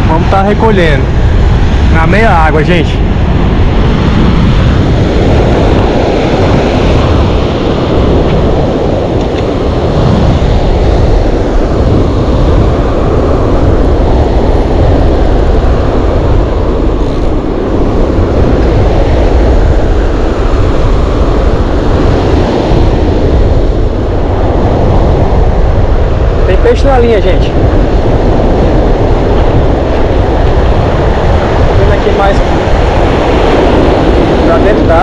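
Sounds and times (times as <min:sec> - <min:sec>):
ocean surf breaking: 0:00.0 - 0:35.0
wind buffeting microphone: 0:00.0 - 0:35.0.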